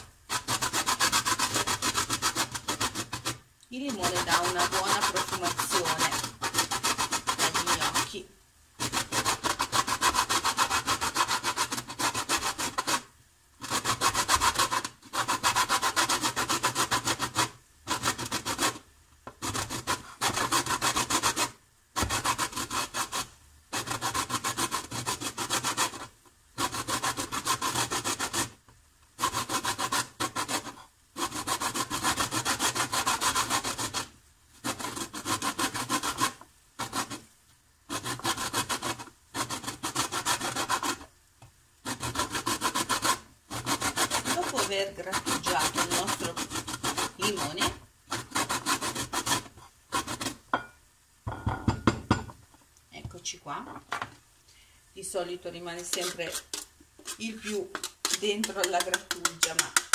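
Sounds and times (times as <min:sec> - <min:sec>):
lemon rasping on metal grater: 0:00.0 - 0:08.2, 0:08.8 - 0:13.0, 0:13.6 - 0:18.8, 0:19.4 - 0:28.6, 0:29.2 - 0:37.2, 0:37.9 - 0:41.1, 0:41.8 - 0:50.7, 0:55.6 - 0:59.9.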